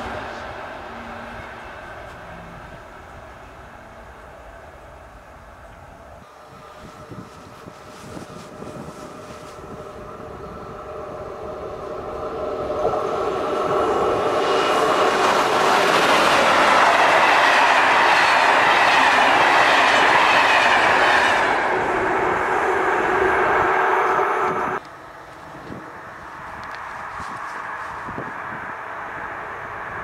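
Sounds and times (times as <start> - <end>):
train wheels on rails: 0.0 - 5.8, 6.4 - 30.0
electric train passing: 0.0 - 30.0.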